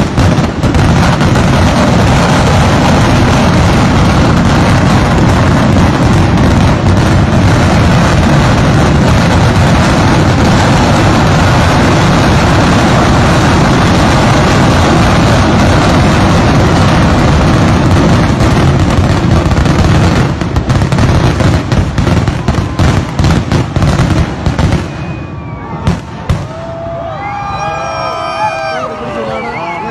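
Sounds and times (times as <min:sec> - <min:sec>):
fireworks explosions: 0:00.0 - 0:29.9.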